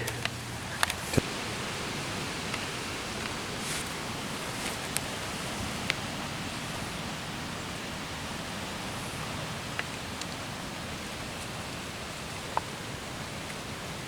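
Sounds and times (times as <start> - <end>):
outdoor ambience hiss: 0.0 - 14.0.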